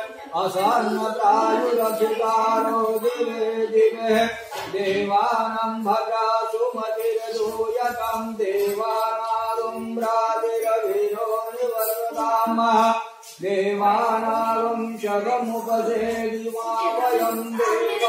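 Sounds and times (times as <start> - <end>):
person singing devotional chant: 0.0 - 18.0.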